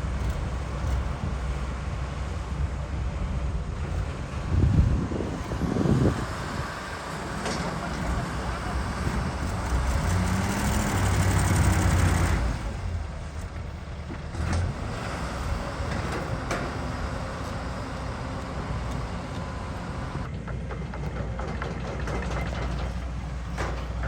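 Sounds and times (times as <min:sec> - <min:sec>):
excavator diesel engine revving: 0:00.0 - 0:20.3.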